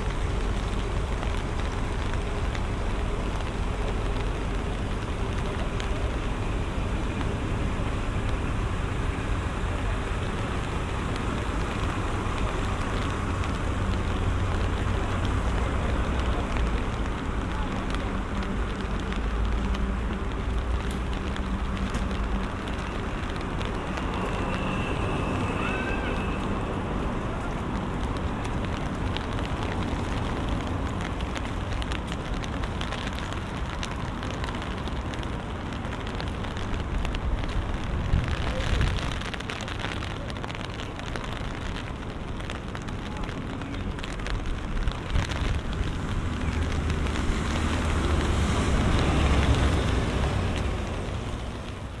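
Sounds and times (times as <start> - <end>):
low traffic rumble: 0.0 - 52.0
rain on an umbrella: 0.0 - 52.0.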